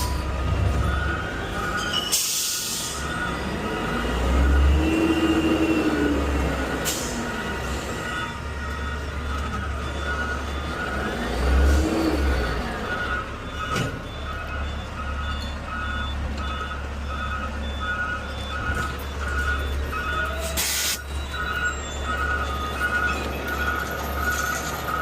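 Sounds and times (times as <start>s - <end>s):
truck backup alarm beeping: 0.0s - 25.0s
truck engine rumble: 0.0s - 25.0s.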